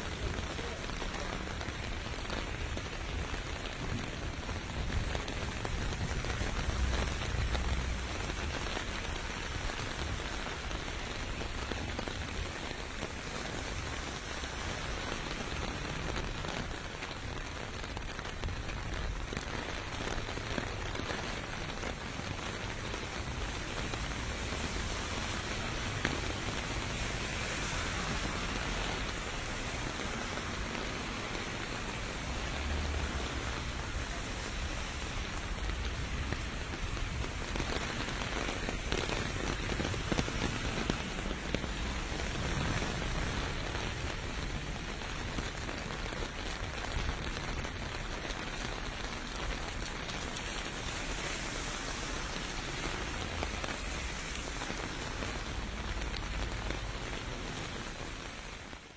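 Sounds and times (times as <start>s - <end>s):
rain pattering on pavement: 0.0s - 58.9s.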